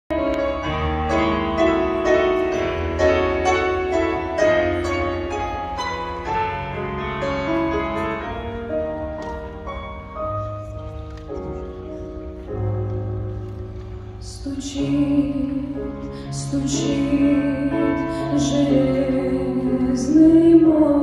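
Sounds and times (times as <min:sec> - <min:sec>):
keyboard melody over held chords: 0:00.1 - 0:21.0.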